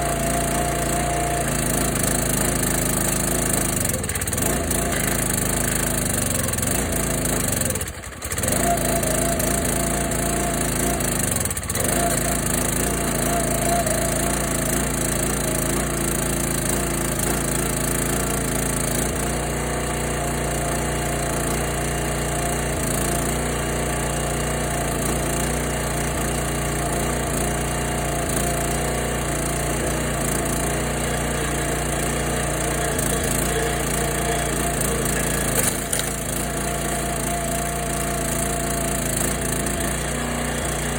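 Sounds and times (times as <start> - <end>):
log splitter engine running: 0.0 - 40.9.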